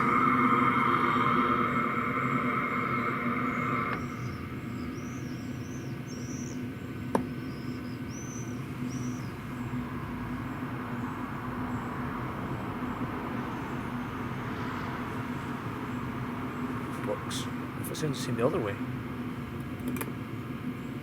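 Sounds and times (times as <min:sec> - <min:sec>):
birds chirping faintly: 0:00.0 - 0:19.8
diesel air heater humming: 0:00.0 - 0:21.0.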